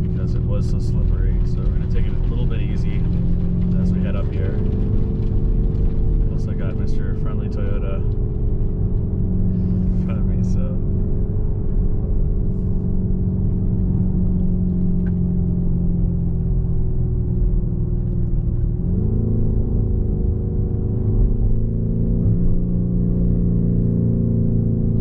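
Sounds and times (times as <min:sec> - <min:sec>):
car engine heard from cabin: 0:00.0 - 0:25.0
low road rumble: 0:00.0 - 0:25.0.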